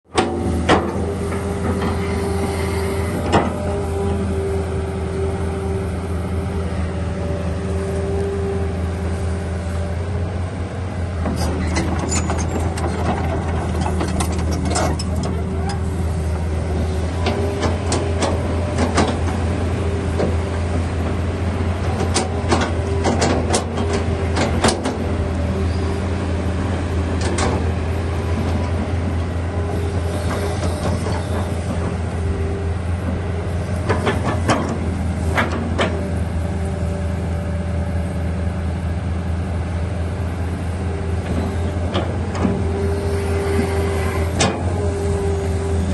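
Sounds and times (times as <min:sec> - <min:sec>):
excavator diesel engine running: 0:00.1 - 0:45.9.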